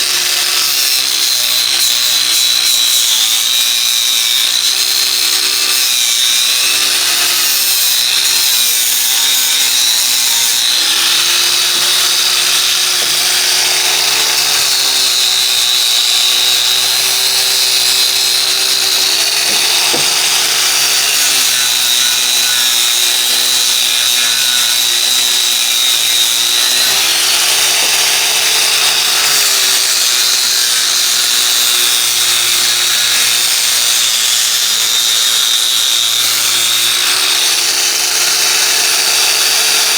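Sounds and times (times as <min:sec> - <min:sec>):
angle grinder on steel: 0:00.0 - 0:39.9.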